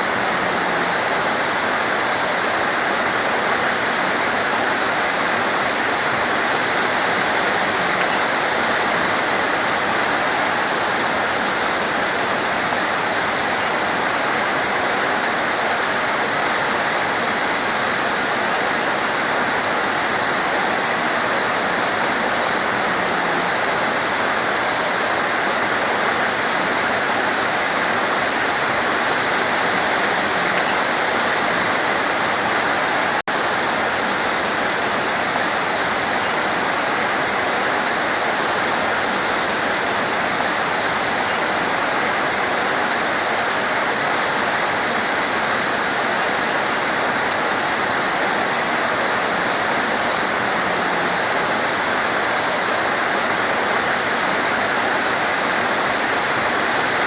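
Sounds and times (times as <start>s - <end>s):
torrential rain hissing: 0.0s - 57.0s.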